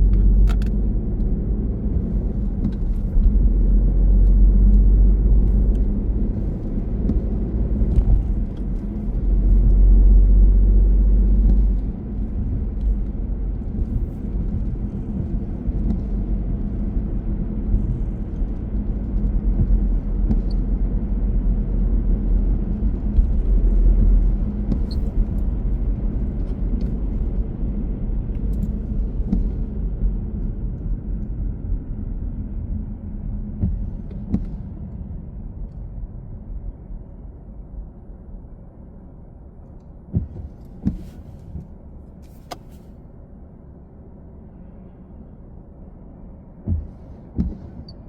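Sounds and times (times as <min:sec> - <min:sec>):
car road noise and engine: 0:00.0 - 0:48.0.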